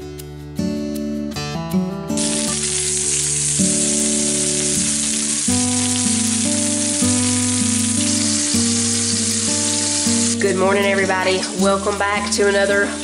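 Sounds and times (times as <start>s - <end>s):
soft background music: 0.0s - 13.0s
bacon sizzling on griddle: 2.2s - 13.0s.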